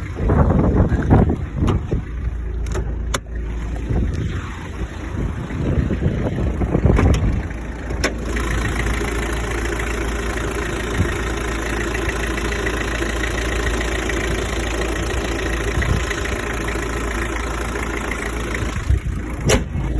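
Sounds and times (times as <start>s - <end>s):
diesel engine idling: 0.0s - 19.9s.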